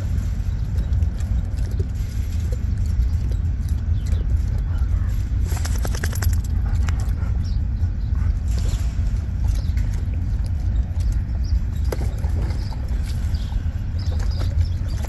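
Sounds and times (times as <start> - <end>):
puppies scraping in bucket: 0.0 - 7.6, 8.2 - 15.0.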